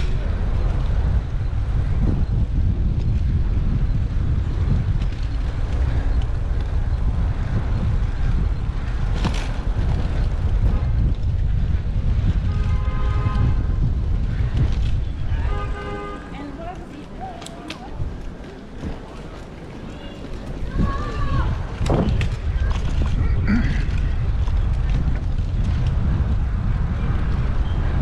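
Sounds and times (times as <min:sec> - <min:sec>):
road rumble: 0:00.0 - 0:28.0
wind buffeting microphone: 0:00.0 - 0:28.0.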